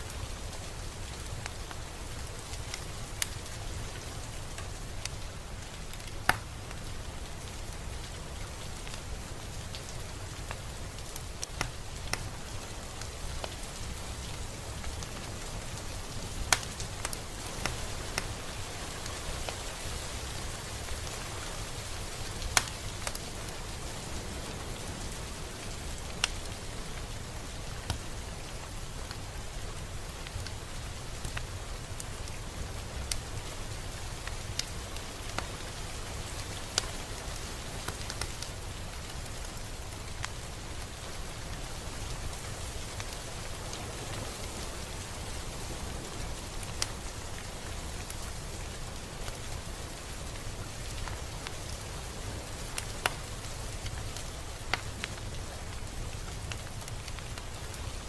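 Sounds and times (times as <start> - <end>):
rain falling: 0.0 - 58.0
raindrops ticking on a surface: 0.0 - 58.0.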